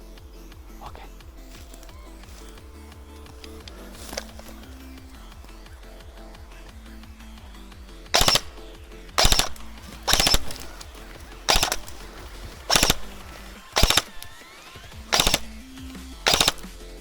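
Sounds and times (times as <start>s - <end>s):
faint background music: 0.0s - 17.0s
airsoft gun automatic bursts: 1.8s - 17.0s.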